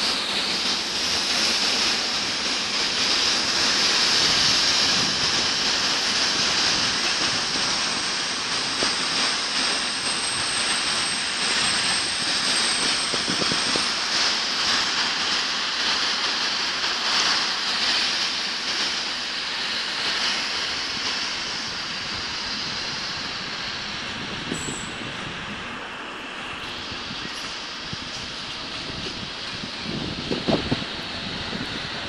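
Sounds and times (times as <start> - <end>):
freight train rolling past: 0.0 - 32.0
thin high whine: 0.0 - 32.0.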